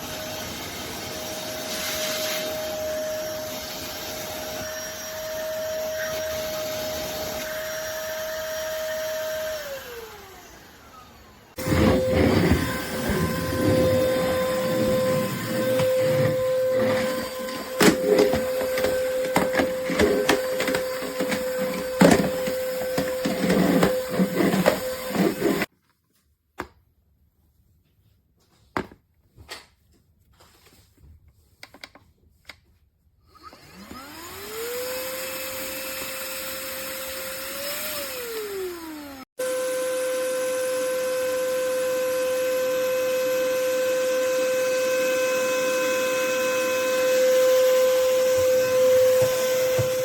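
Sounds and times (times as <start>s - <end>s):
stick vacuum cleaner whine: 0.0s - 25.7s, 33.3s - 50.0s.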